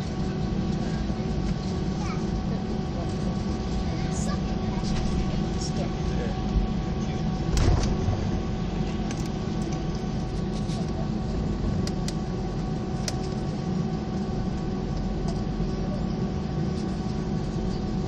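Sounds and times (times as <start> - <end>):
aircraft engines droning: 0.0 - 18.0
steady whine: 0.0 - 18.0.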